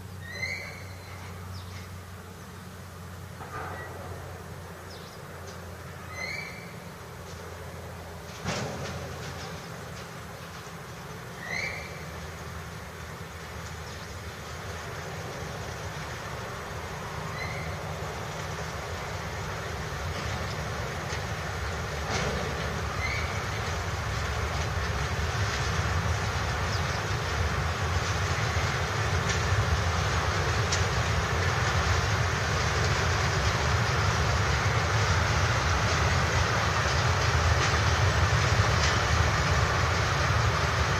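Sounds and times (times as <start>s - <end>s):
freight train wheels rumbling: 0.0s - 40.9s
train wheels clacking: 5.4s - 40.9s.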